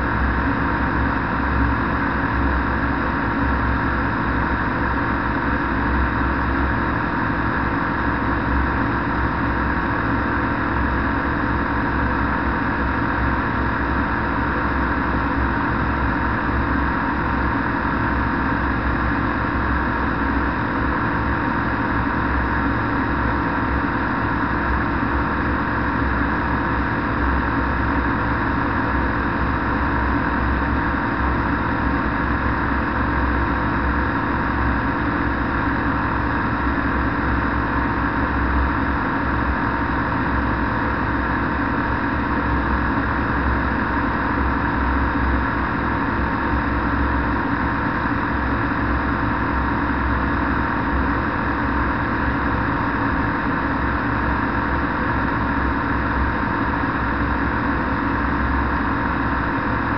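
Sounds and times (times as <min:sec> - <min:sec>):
propeller engine running: 0:00.0 - 0:59.9.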